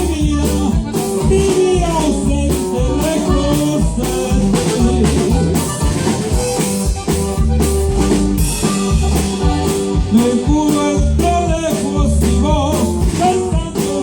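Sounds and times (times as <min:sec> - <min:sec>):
bass: 0:00.0 - 0:14.0
steady drum beat: 0:00.0 - 0:14.0.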